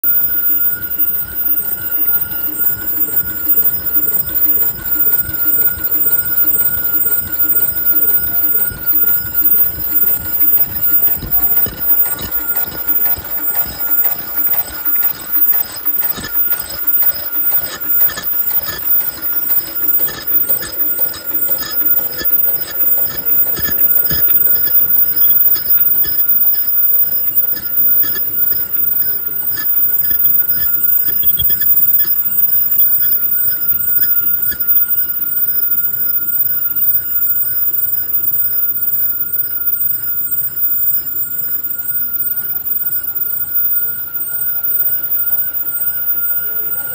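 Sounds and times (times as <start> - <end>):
machine mechanical clatter: 0.0 - 46.9
steady high tone: 0.0 - 46.9.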